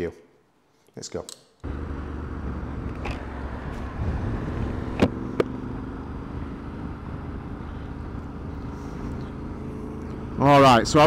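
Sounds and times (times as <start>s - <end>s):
motorcycle engine riding: 1.6s - 11.0s.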